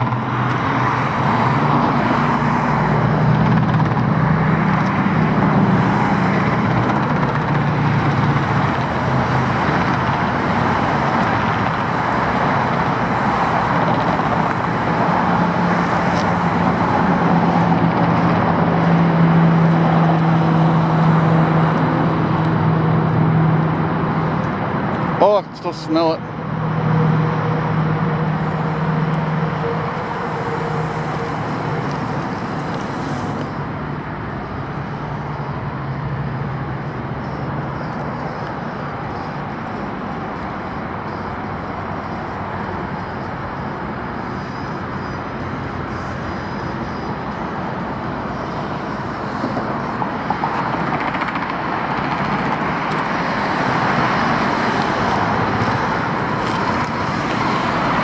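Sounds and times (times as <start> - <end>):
low engine hum: 0.0 - 58.0
road traffic noise: 0.0 - 58.0.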